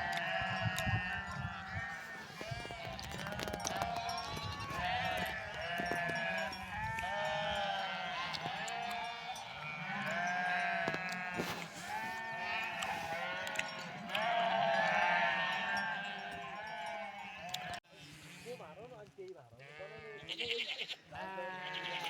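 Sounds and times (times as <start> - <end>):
flock of sheep bleating: 0.0 - 18.9, 19.5 - 22.0.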